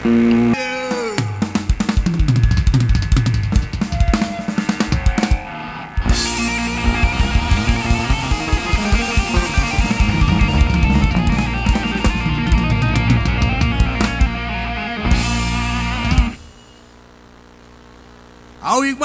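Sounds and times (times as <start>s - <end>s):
drum kit beat: 0.0s - 16.5s
electric guitar: 0.0s - 16.9s.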